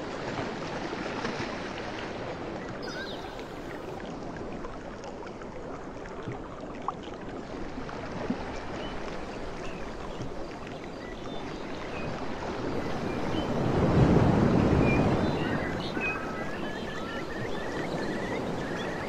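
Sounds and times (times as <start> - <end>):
rushing water: 0.0 - 19.0
wind: 0.0 - 19.0.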